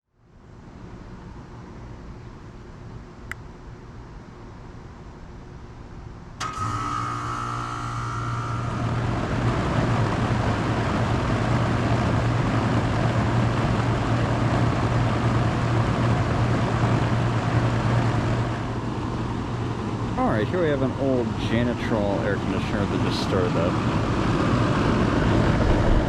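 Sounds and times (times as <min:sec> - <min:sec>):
fan rushing air: 0:00.1 - 0:26.0
compressor humming: 0:00.4 - 0:26.0.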